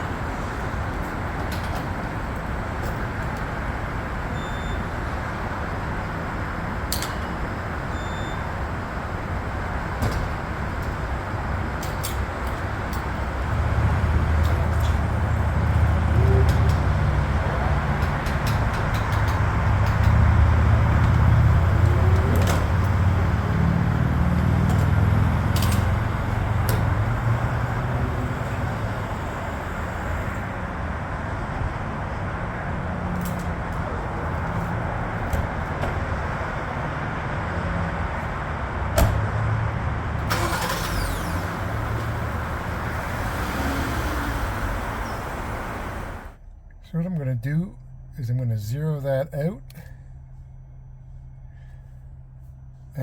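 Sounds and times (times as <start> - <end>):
engine rumble: 0.0 - 53.0
road noise: 0.0 - 53.0.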